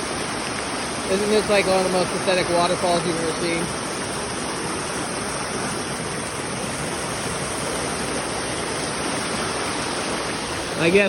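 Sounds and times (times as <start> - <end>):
small waterfall splashing: 0.0 - 11.0.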